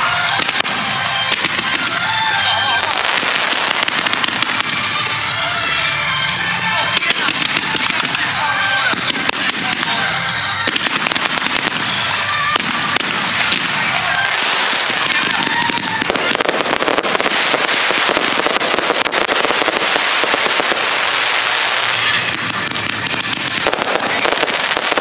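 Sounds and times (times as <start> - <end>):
fireworks popping and crackling: 0.0 - 25.0.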